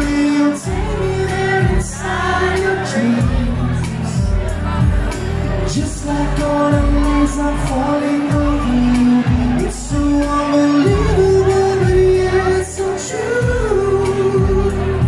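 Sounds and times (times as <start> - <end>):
amplified band: 0.0 - 15.0
man singing pop ballad: 0.0 - 15.0.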